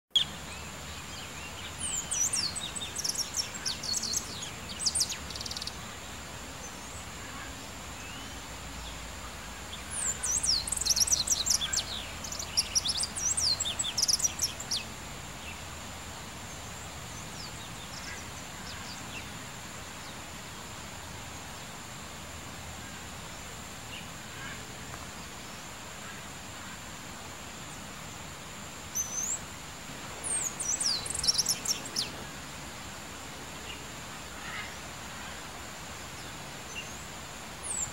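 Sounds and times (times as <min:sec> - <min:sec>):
songbird chirps and trills: 0:00.1 - 0:37.9
steady outdoor hiss: 0:00.1 - 0:37.9.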